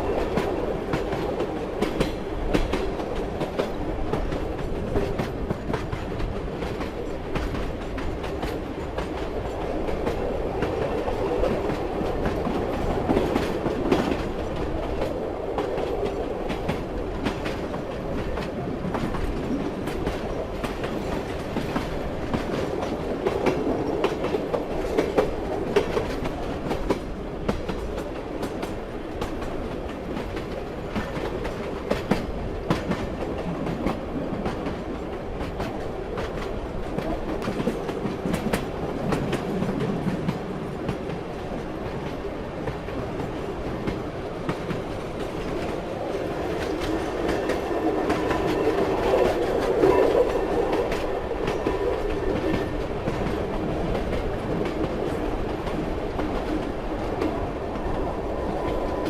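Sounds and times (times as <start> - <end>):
train wheels clacking over rail joints: 0.0 - 57.9
train rumble: 0.0 - 59.0.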